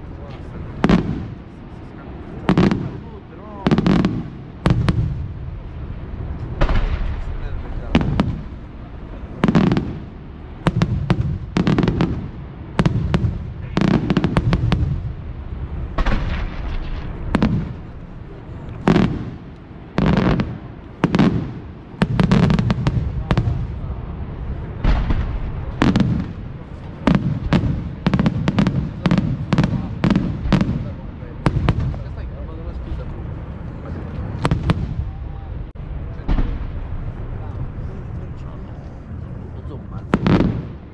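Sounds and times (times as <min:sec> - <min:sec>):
fireworks bursts and bangs: 0:00.0 - 0:38.7, 0:39.6 - 0:40.9.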